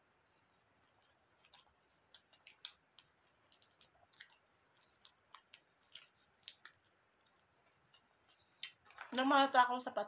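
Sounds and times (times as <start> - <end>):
person chewing food: 0.0 - 9.2
small clicks and crackles: 0.9 - 9.6.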